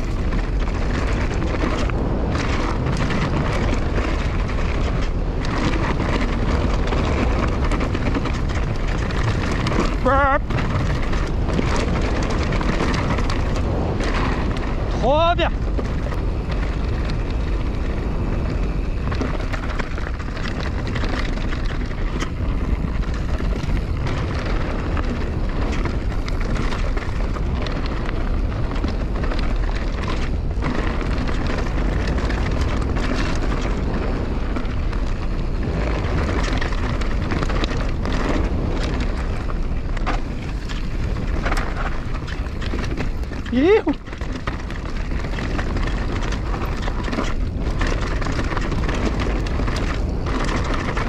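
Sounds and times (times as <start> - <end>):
bike rattling: 0.0 - 51.0
tyres crunching over dirt and stones: 0.0 - 51.0
wind buffeting microphone: 0.0 - 51.0.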